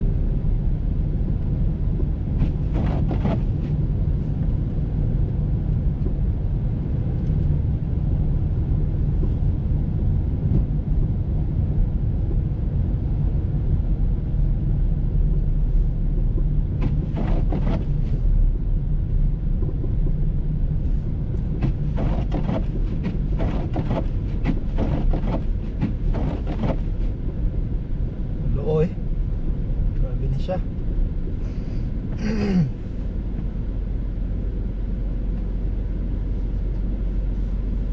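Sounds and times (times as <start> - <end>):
vehicle rumbling: 0.0 - 37.9.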